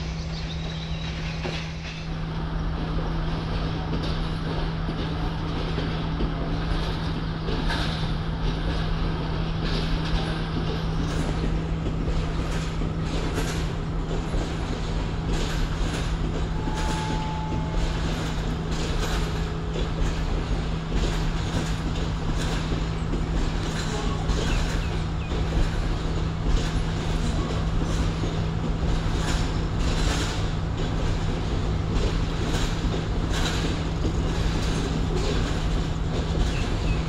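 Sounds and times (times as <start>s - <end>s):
train carriages rolling past: 0.0s - 37.0s
wheels clicking over rail joints: 0.0s - 37.0s.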